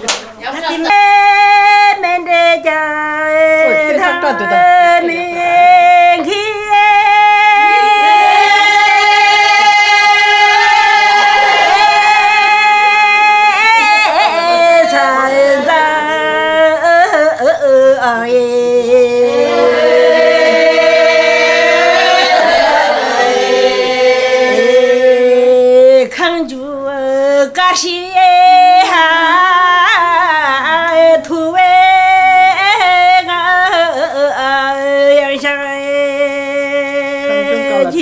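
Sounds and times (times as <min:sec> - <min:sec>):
elderly woman singing unaccompanied: 0:00.5 - 0:22.4, 0:24.3 - 0:38.0.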